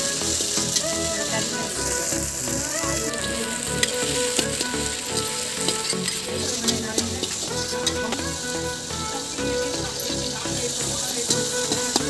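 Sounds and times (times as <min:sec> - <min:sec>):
onions and tomatoes sizzling in oil: 0:00.0 - 0:12.0.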